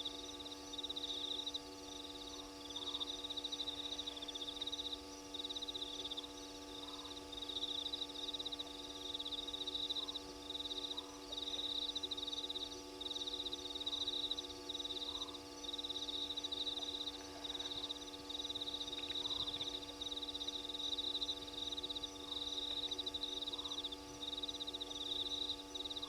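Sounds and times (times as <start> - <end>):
crickets trilling: 0.0 - 26.0
electrical hum: 0.0 - 26.0.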